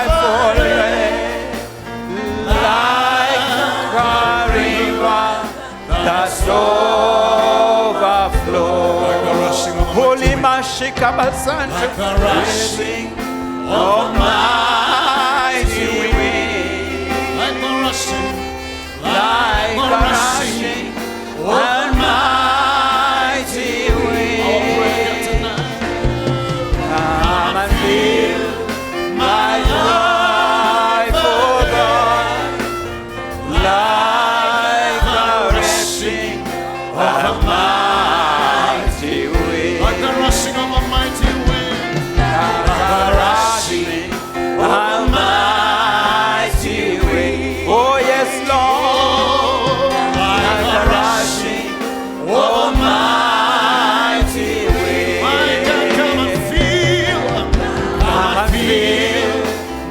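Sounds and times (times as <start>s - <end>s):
congregation singing with a band: 0.0s - 59.9s
drum hits: 0.0s - 59.9s.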